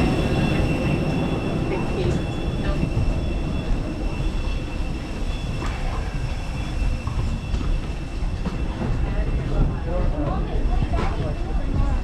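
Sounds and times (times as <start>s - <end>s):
faint high whining tones: 0.0s - 11.6s.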